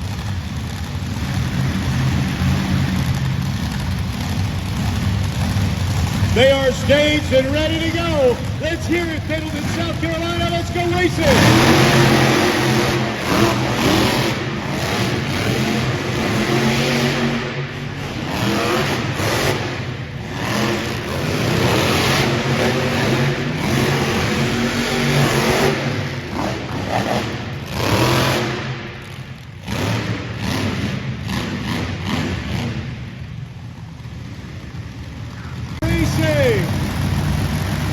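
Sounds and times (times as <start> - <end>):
monster truck engines revving: 0.0 - 37.9.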